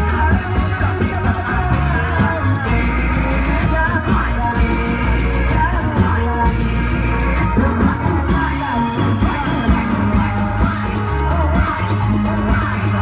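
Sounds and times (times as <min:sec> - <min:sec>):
drum strokes: 0:00.0 - 0:13.0
heavy bass: 0:00.0 - 0:13.0.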